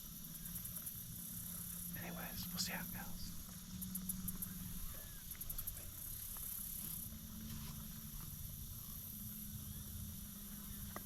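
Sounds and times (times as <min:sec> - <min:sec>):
insects chirping: 0:00.0 - 0:11.0
low steady hum: 0:00.0 - 0:11.0.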